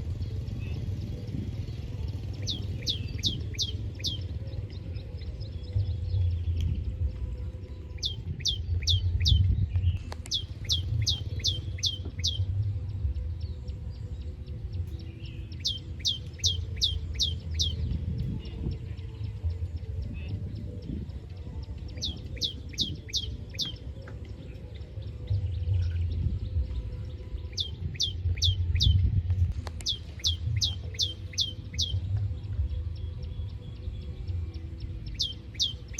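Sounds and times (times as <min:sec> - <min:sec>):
low rumble: 0:00.0 - 0:35.2.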